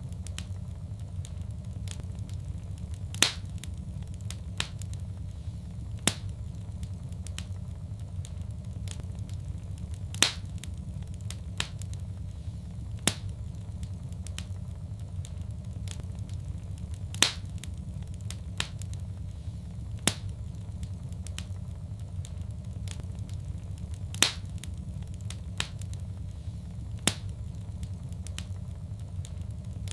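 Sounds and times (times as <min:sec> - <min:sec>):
low rumble of burning fire: 0:00.0 - 0:29.9
wood fire crackling pops: 0:00.0 - 0:29.9.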